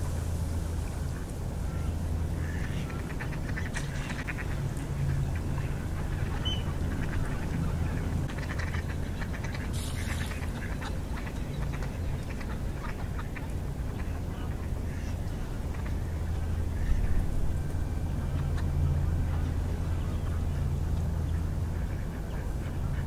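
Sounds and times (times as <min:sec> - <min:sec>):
steady low rumble: 0:00.0 - 0:23.0
ducks quacking: 0:00.8 - 0:23.0.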